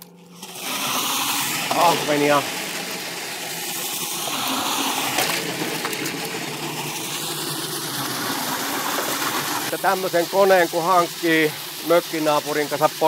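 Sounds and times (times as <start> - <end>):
fish churning in spinning drum: 0.0 - 13.0
water rushing: 0.4 - 13.0.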